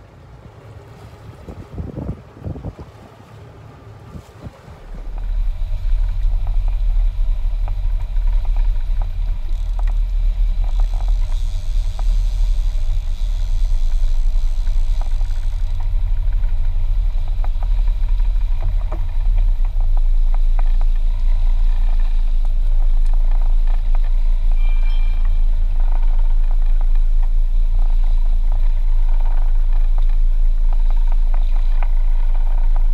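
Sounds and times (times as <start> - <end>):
boat engine rumbling: 0.0 - 32.9.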